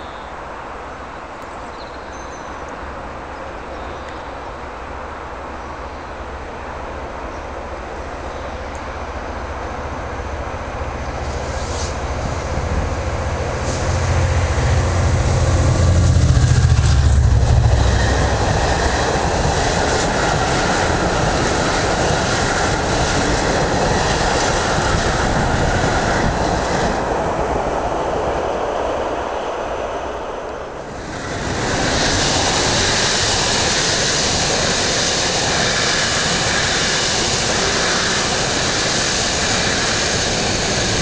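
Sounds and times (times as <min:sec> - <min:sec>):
diesel locomotive passing: 0:00.0 - 0:41.0.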